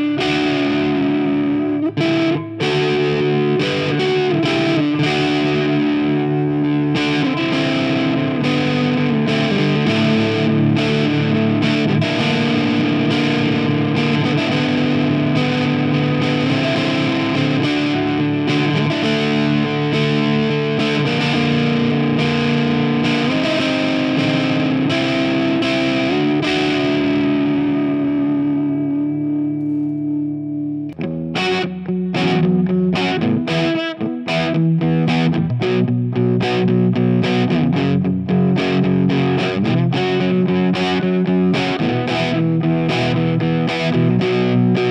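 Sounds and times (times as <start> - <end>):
distorted electric guitar chords: 0.0 - 44.9.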